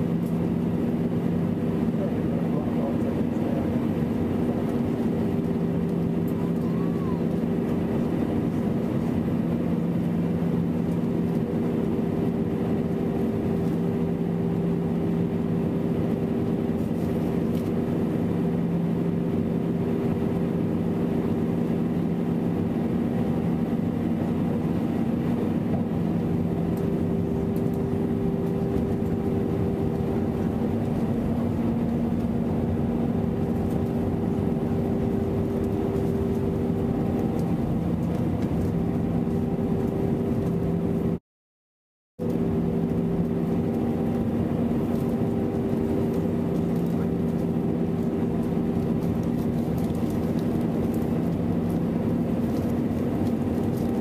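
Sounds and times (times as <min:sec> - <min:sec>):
airliner engines droning: 0:00.0 - 0:41.2, 0:42.2 - 0:54.0
low steady hum: 0:00.0 - 0:41.2, 0:42.2 - 0:54.0.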